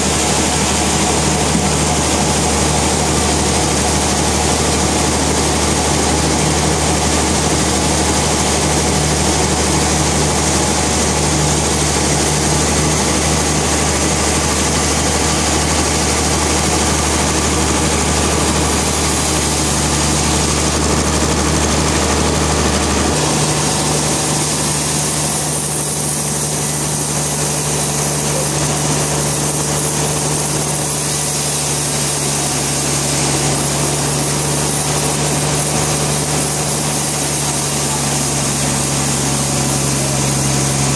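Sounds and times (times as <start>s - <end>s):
sawmill machinery humming: 0.0s - 40.9s.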